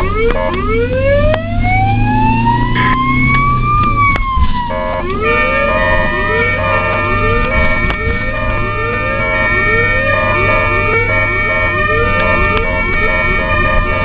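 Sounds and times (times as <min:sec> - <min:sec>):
ambulance siren wailing: 0:00.0 - 0:14.0
traffic hum: 0:00.0 - 0:14.0.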